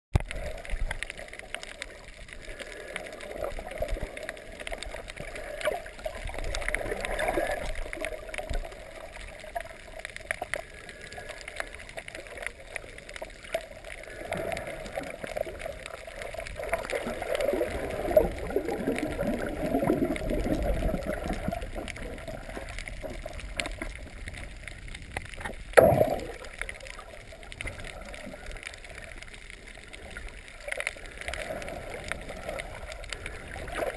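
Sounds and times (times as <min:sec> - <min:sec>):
water gurgling underwater: 0:00.2 - 0:33.9.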